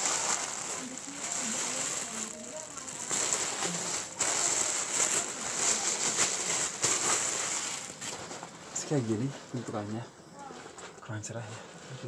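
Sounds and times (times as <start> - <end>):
plastic wrapper crinkling: 0.0 - 11.1.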